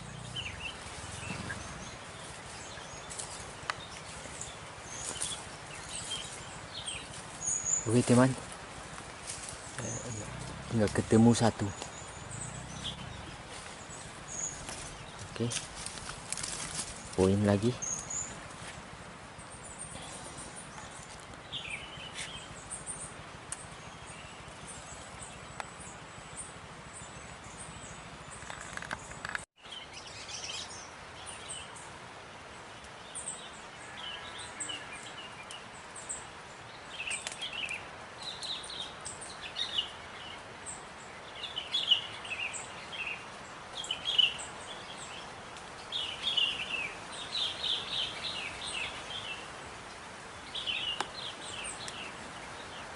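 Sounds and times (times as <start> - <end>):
birds chirping: 0.0 - 52.9
steady outdoor hiss: 0.0 - 52.9.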